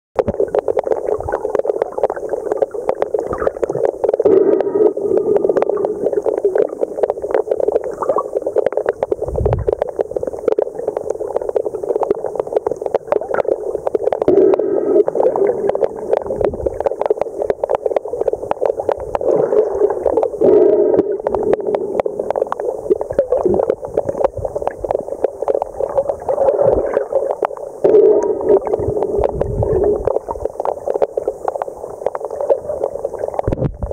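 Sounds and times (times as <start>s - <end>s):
bubbling underwater rush: 0.2s - 33.9s
underwater crackle of clicks: 0.2s - 33.9s.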